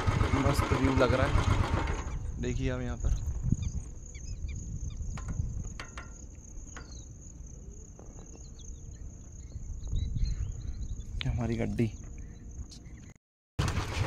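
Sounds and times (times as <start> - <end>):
low uneven rumble: 0.0 - 13.1
crickets trilling: 0.1 - 13.1.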